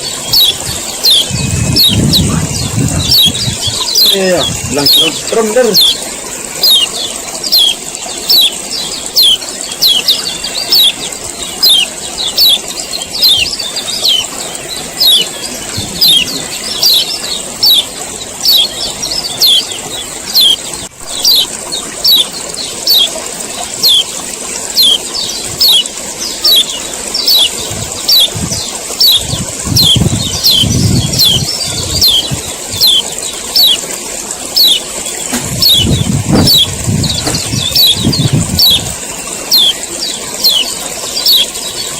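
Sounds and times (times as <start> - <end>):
bird chipping calls: 0.0 - 41.9.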